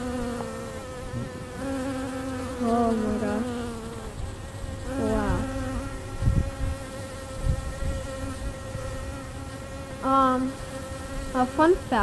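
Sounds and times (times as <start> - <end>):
wasps buzzing: 0.0 - 12.0.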